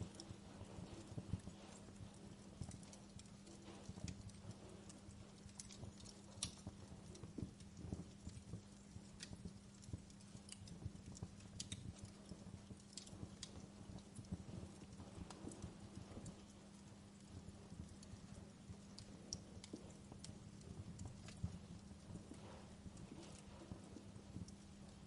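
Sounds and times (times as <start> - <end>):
steady low hum: 0.0 - 25.0
wood fire crackling: 0.0 - 25.0.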